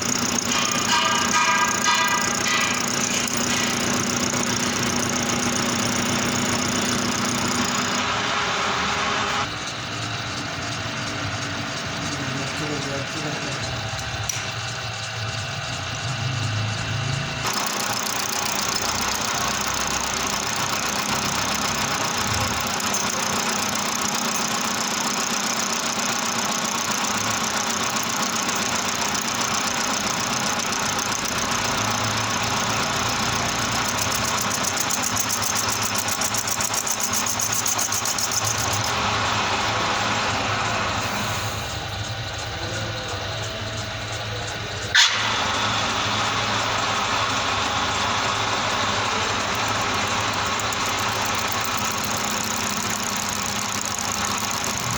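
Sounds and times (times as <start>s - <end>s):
high-pitched metal cutting noise: 0.0s - 54.9s
metal lathe running: 0.0s - 54.9s.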